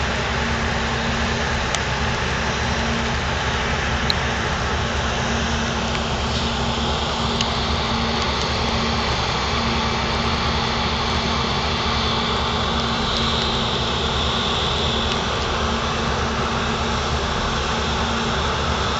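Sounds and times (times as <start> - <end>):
ship engines humming: 0.0 - 18.9.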